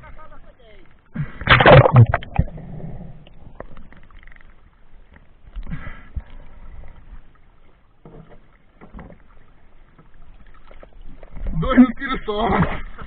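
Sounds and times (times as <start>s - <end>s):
faint water noise: 0.0s - 13.0s.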